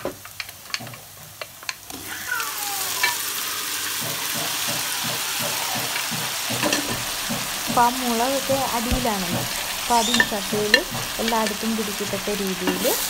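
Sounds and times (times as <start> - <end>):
loud sizzle in a wok: 0.0 - 13.0.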